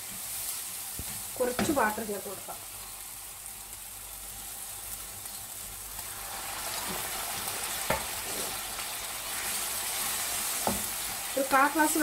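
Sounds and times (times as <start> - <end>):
masala sizzling in pan: 0.0 - 12.0.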